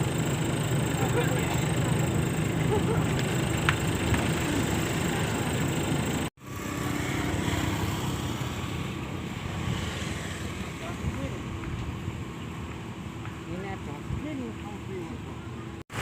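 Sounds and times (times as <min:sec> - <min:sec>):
engines running steadily: 0:00.0 - 0:16.0.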